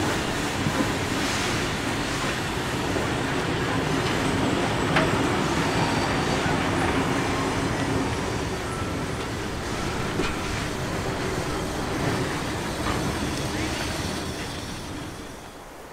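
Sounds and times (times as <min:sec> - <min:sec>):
train wheels rumbling on track: 0:00.0 - 0:15.9.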